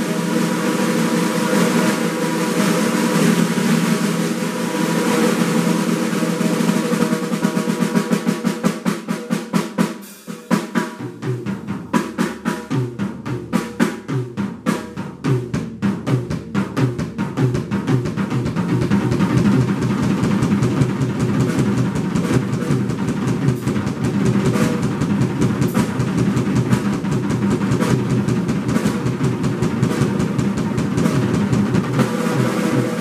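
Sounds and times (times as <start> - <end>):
fast drum beat: 0.0 - 33.0
snare drum roll: 0.0 - 33.0.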